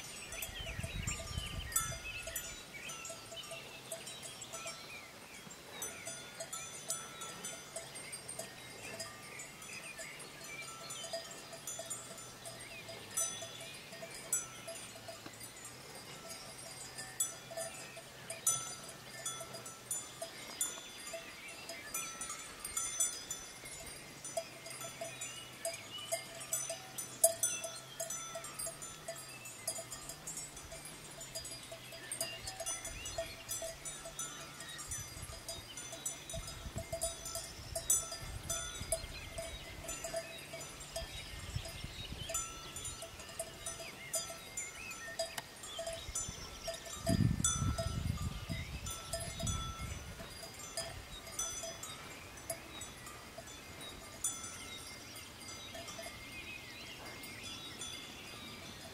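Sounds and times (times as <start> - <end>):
cowbell clinking: 0.0 - 58.9.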